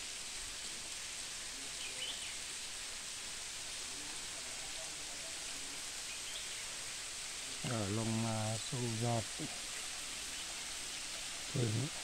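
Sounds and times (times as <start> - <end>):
waterfall hissing and splashing: 0.0 - 12.0.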